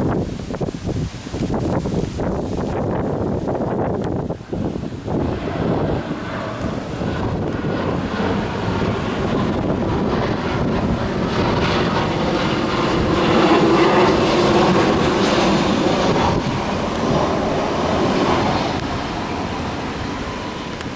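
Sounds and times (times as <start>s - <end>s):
low-flying aircraft passing overhead: 0.0s - 20.9s.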